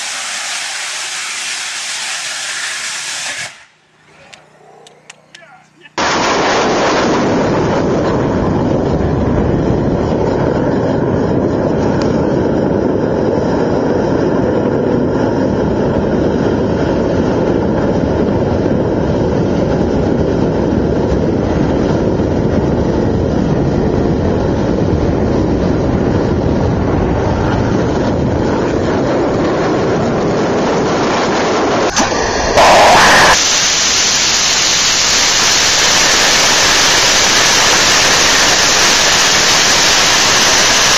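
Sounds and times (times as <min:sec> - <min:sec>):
rocket engine firing: 0:00.0 - 0:40.9.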